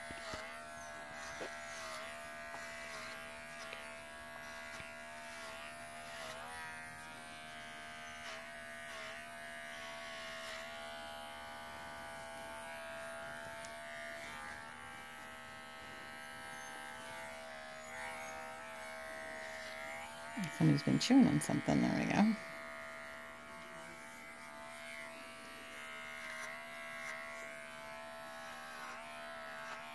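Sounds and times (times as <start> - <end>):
electric clipper buzzing: 0.0 - 29.9.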